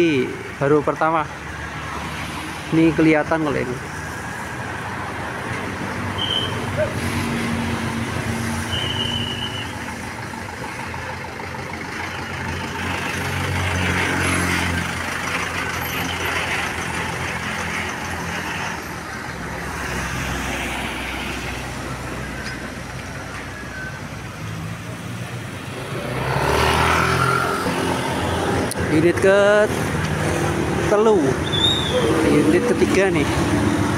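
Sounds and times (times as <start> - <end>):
diesel bus engine running: 0.0 - 26.2, 26.8 - 33.9
road traffic noise: 0.0 - 33.9.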